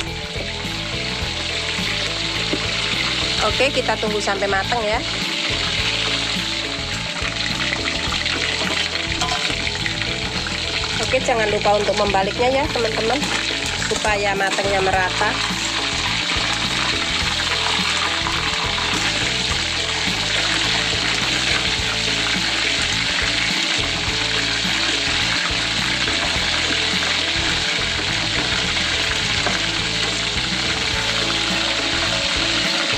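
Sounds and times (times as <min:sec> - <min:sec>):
background music: 0:00.0 - 0:32.9
chicken sizzling in hot oil: 0:00.0 - 0:32.9.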